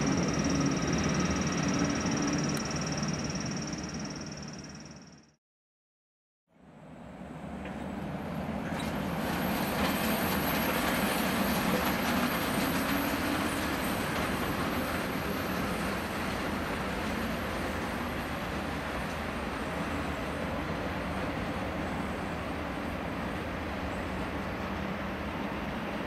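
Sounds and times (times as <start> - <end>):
train wheels on rails: 0.0 - 4.9, 7.5 - 26.0.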